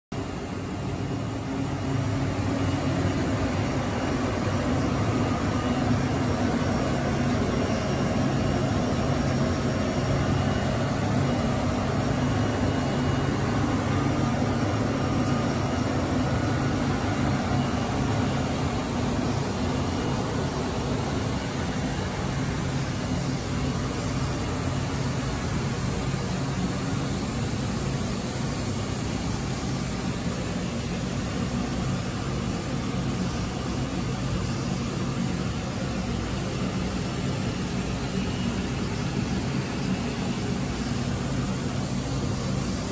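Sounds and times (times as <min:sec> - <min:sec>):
fan-like hiss: 0:00.2 - 0:42.9.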